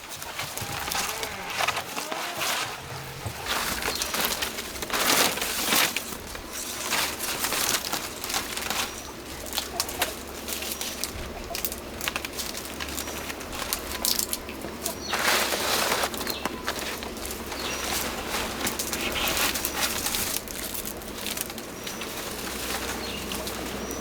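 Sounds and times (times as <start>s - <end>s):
building materials rustling: 0.0s - 24.0s.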